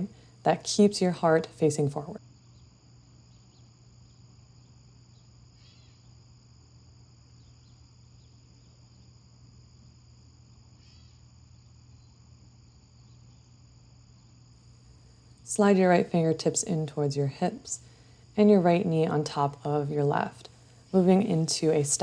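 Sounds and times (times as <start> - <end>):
crickets chirping: 0.0 - 22.0
low steady hum: 0.0 - 22.0.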